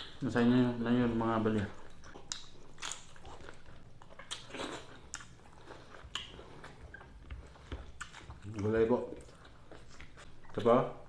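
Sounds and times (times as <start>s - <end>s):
chewing and biting food: 1.6s - 10.6s.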